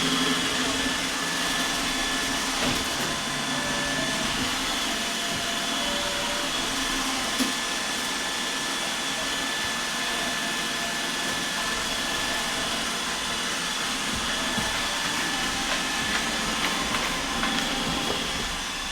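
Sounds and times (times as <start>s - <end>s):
robot vacuum running: 0.0s - 18.9s.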